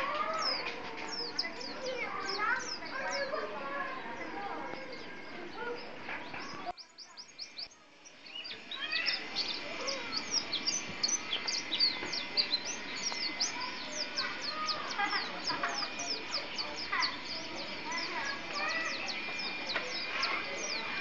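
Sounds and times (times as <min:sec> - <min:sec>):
songbird chirping song: 0:00.0 - 0:21.0.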